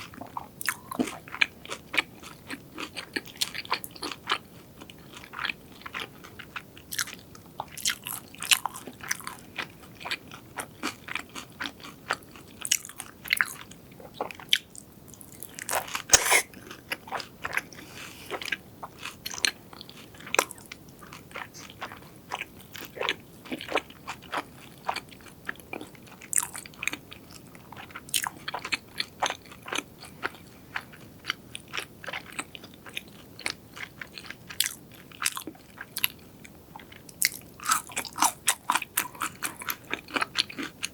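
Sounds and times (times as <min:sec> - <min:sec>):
crunchy chewing of fried food: 0:00.0 - 0:40.9.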